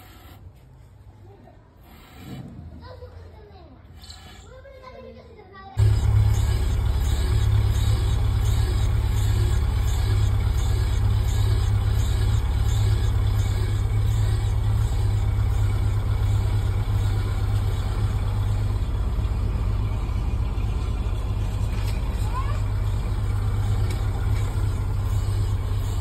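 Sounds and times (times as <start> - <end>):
engine idling: 1.8 - 2.4, 3.9 - 4.6, 5.8 - 26.0.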